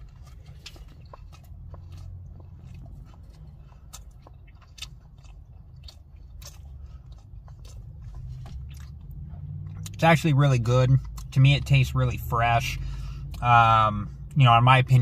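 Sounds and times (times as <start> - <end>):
low steady hum: 0.0 - 15.0
person chewing: 0.0 - 15.0.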